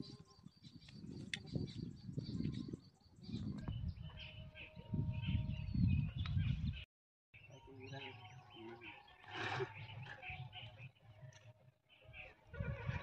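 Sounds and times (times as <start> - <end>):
small birds chirping: 0.0 - 6.8, 7.4 - 13.0.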